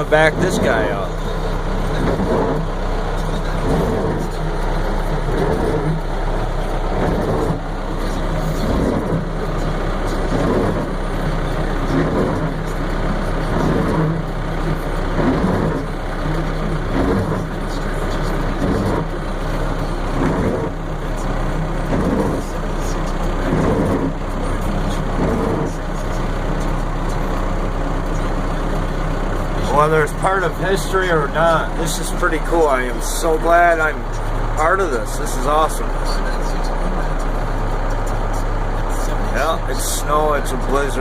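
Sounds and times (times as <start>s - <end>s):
truck diesel engine running: 0.0s - 41.0s.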